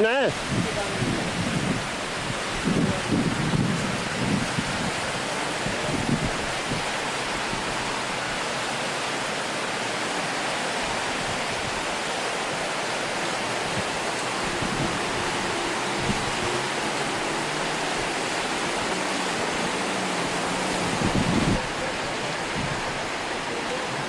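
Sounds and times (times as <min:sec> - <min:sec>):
river rushing over stones: 0:00.0 - 0:24.0.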